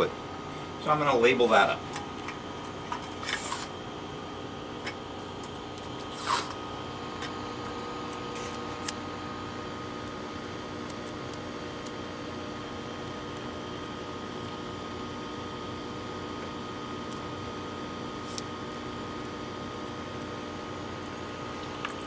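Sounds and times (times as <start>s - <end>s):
lab equipment fans humming: 0.0s - 22.0s.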